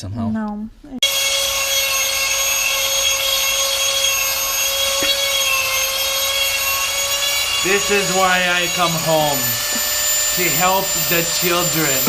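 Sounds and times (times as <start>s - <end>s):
whining tones: 1.0s - 12.0s.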